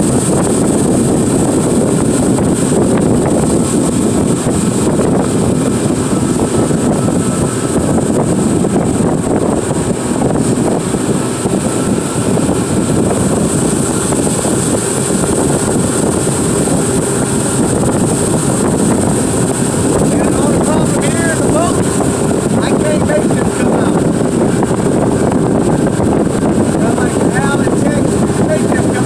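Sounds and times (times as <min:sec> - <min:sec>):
boat motor running: 0:00.0 - 0:29.0
wind buffeting microphone: 0:00.0 - 0:29.0.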